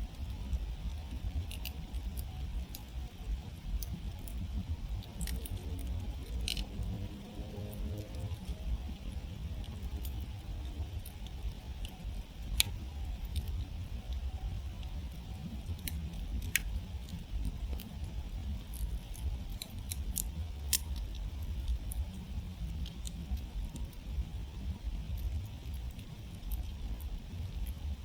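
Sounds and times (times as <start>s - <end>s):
campfire pops and snaps: 0.1s - 28.0s.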